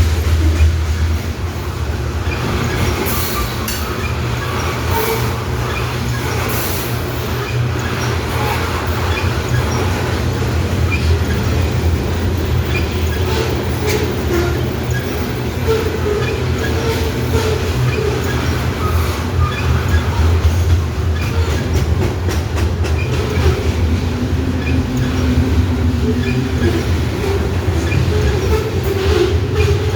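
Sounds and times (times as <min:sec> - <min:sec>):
freight train rumbling past: 0:00.0 - 0:29.9.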